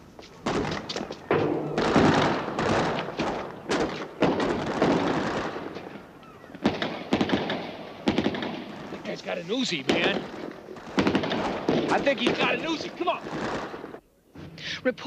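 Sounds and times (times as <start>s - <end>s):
gunshots with loud echo: 0.4s - 14.0s.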